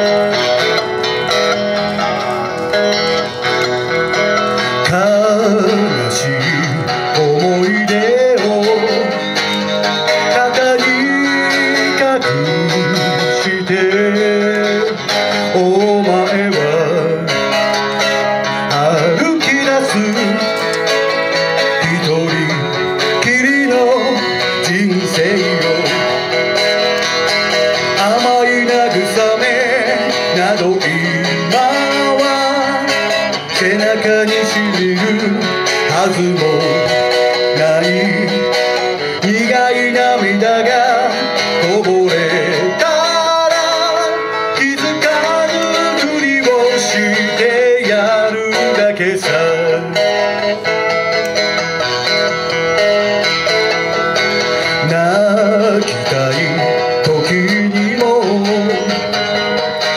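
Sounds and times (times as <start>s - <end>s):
man singing: 0.0s - 50.7s, 53.2s - 59.9s
electric guitar: 0.0s - 59.9s.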